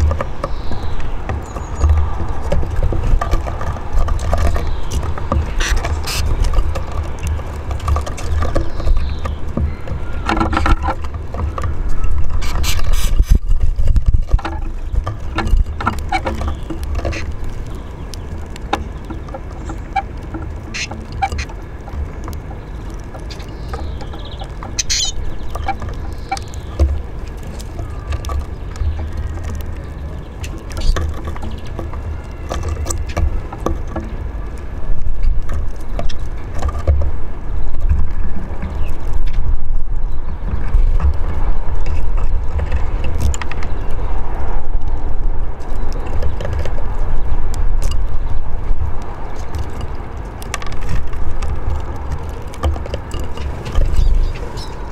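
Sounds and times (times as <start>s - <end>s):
beaks pecking seed on wood: 0.0s - 37.2s, 45.6s - 54.9s
steady low rumble: 0.0s - 54.9s
wings fluttering: 0.0s - 54.9s.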